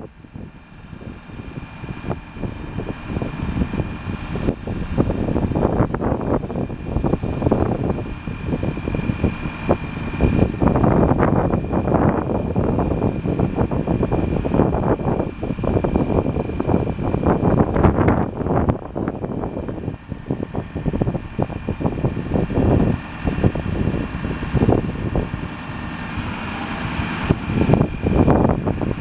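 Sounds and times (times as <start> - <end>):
thin high whine: 0.0 - 29.0
truck engine and hydraulic drone: 0.0 - 29.0.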